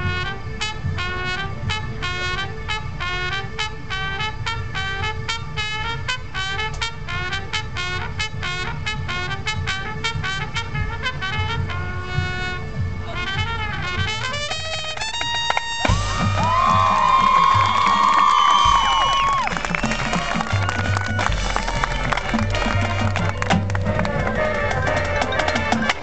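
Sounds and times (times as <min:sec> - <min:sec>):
marching band brass playing: 0:00.0 - 0:26.0.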